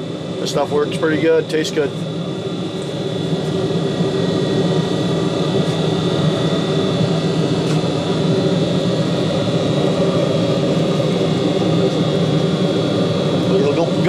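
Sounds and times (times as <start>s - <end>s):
mechanical drone with high tones: 0.0s - 14.0s.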